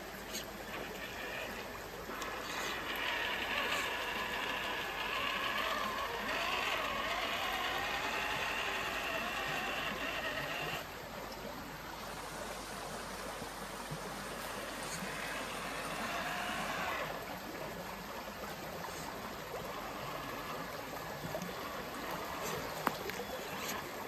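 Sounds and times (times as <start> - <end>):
creek water rushing: 0.0 - 24.0
toy truck electric motor whine: 0.1 - 11.0, 12.0 - 17.5, 18.8 - 24.0.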